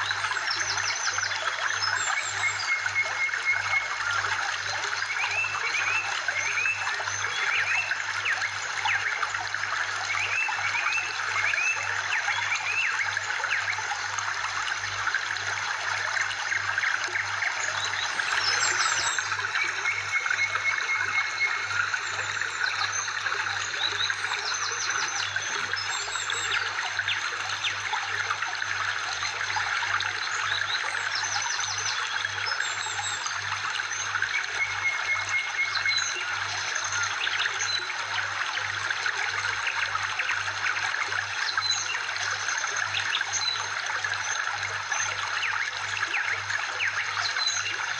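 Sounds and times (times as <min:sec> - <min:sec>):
water trickling: 0:00.0 - 0:47.9.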